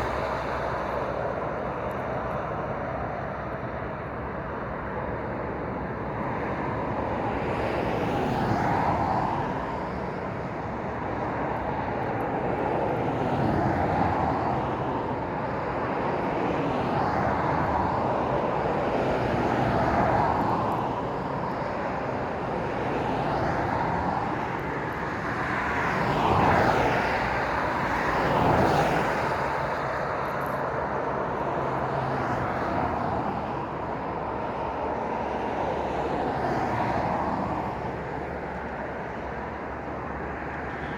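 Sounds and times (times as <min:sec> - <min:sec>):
cars and lorries passing at speed: 0:00.0 - 0:40.9.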